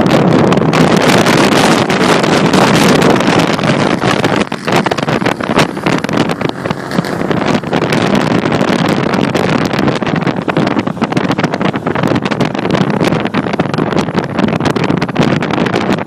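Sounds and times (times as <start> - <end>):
car driving at speed: 0.0 - 16.0
wind buffeting microphone: 0.0 - 16.0.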